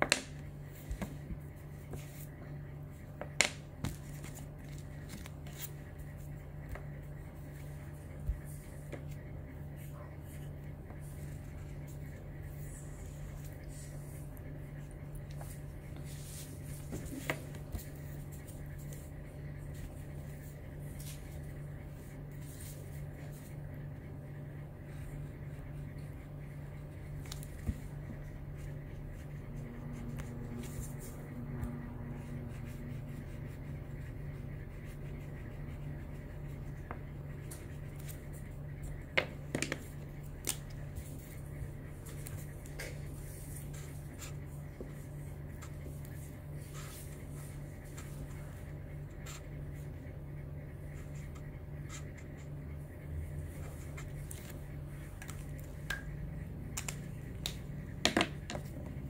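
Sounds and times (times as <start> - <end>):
steady low hum: 0.0 - 59.0
marker scratching on card: 3.8 - 55.6.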